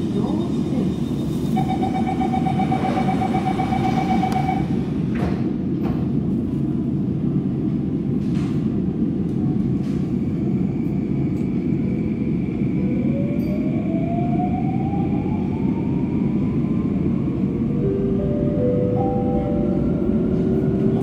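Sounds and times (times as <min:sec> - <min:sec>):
metro train rumbling: 0:00.0 - 0:21.0.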